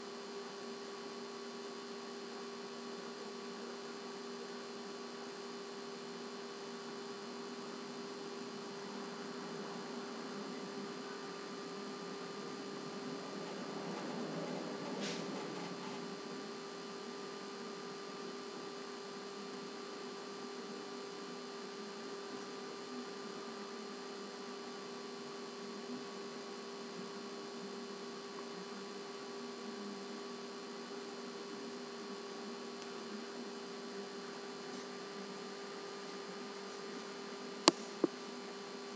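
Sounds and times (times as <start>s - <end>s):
electrical hum and hiss: 0.0s - 38.9s.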